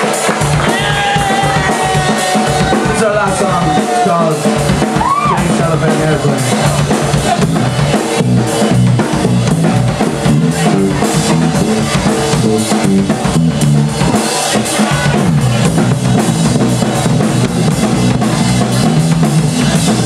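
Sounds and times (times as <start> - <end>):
drum kit beat: 0.0 - 20.0
live rock band playing: 0.0 - 20.0.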